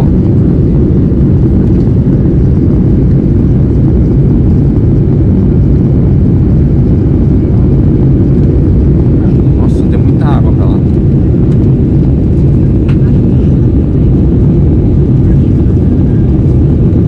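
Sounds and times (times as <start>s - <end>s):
airliner cabin roar: 0.0s - 17.0s.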